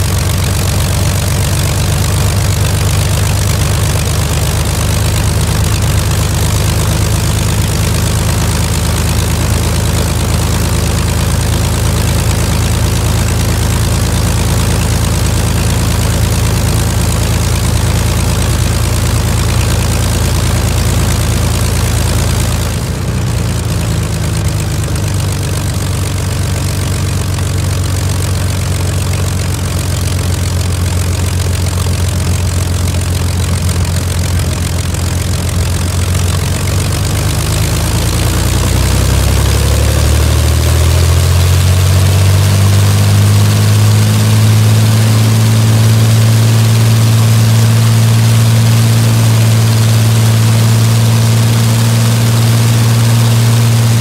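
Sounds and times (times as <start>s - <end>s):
aero engine running: 0.0s - 54.0s.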